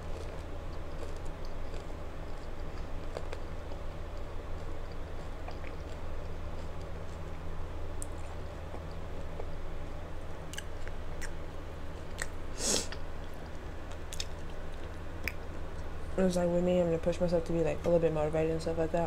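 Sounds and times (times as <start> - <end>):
chewing crunchy taco shell: 0.0 - 16.1
steady low hum: 0.0 - 19.0.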